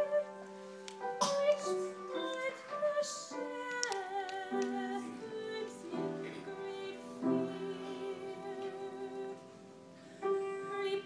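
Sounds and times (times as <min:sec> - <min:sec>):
woman singing with vibrato: 0:00.0 - 0:00.5, 0:01.2 - 0:09.6, 0:10.2 - 0:11.0
slow music: 0:00.0 - 0:11.0.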